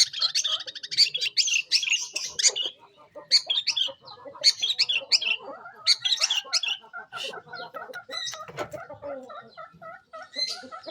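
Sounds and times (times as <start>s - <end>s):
bird chirping and chattering: 0.0s - 10.9s.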